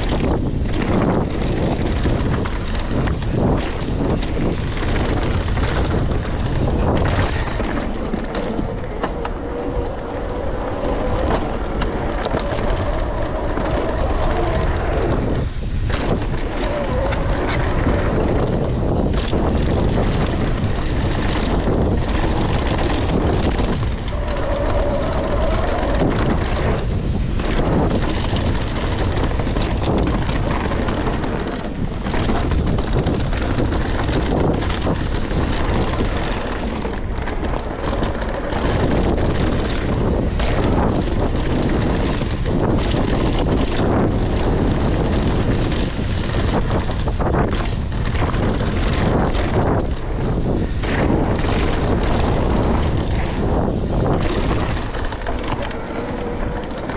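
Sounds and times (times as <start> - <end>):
bike tyres rolling over leaves: 0.0 - 56.9
wind on microphone: 0.0 - 56.9.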